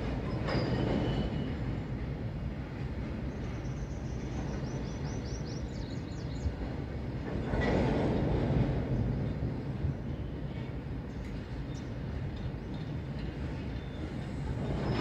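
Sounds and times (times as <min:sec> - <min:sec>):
freight wagons rumbling on rails: 0:00.0 - 0:15.0.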